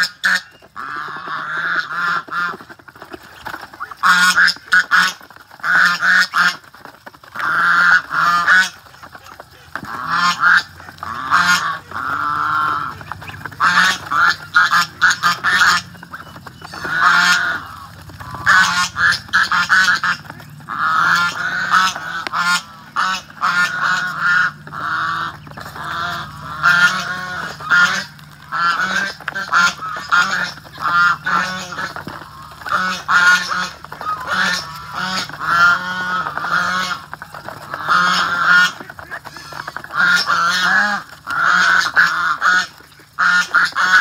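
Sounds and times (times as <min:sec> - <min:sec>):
bills clicking in feed: 0:00.0 - 0:44.0
ducks quacking: 0:00.0 - 0:44.0.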